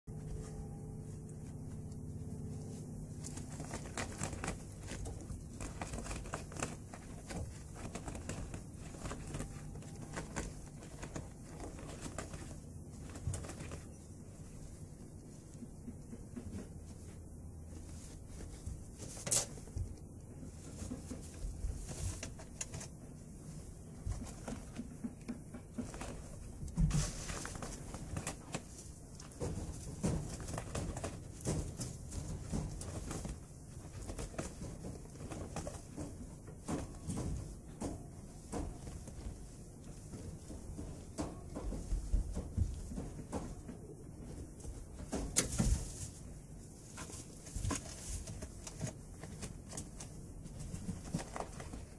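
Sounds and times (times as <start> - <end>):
low steady hum: 0.1 - 51.9
hay rustling and scratching: 0.4 - 15.9, 16.5 - 25.0, 25.7 - 51.9.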